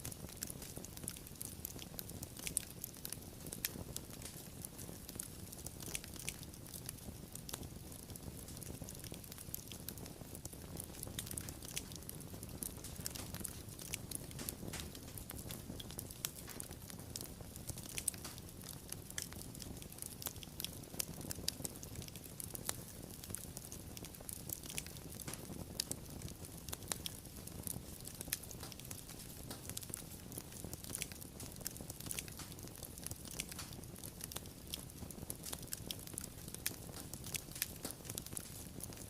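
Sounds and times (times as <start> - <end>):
fire pops and snaps: 0.0 - 39.0
low rumble of burning: 0.0 - 39.0
wood fire crackling: 0.0 - 39.0.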